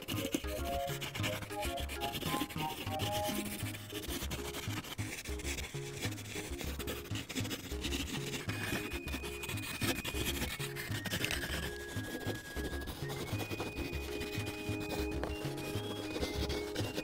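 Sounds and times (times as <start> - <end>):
colored pencil scribbling on paper: 0.0 - 17.0
light background music: 0.0 - 17.0.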